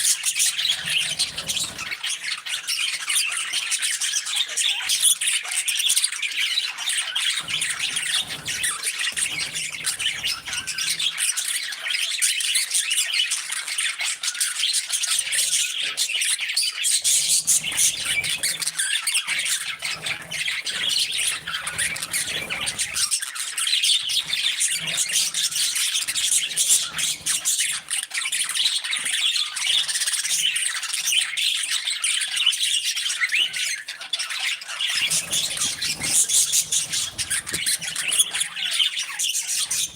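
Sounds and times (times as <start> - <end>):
budgies chattering and squawking: 0.0 - 39.9.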